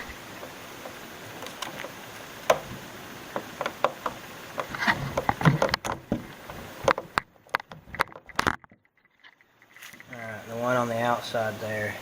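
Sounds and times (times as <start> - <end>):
plastic parts and wires clicking: 0.0 - 10.2
faint steady hiss: 0.0 - 12.0.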